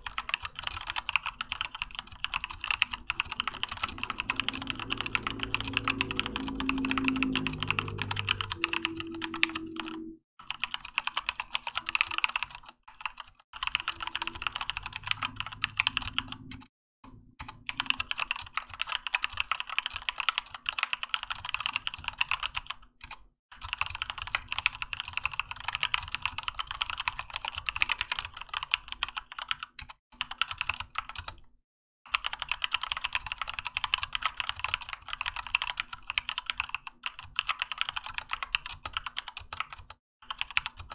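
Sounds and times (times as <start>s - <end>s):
mechanical keyboard typing: 0.0s - 16.7s, 17.4s - 31.4s, 32.1s - 40.9s.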